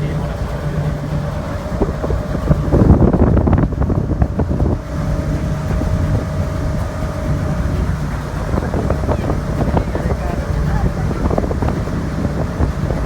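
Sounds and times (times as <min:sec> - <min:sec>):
ferry engines droning: 0:00.0 - 0:13.0
wind buffeting microphone: 0:00.0 - 0:13.0.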